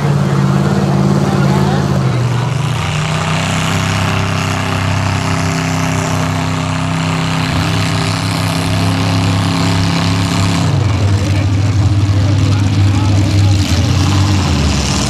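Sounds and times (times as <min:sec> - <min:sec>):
pickup truck engine droning: 0:00.0 - 0:15.0.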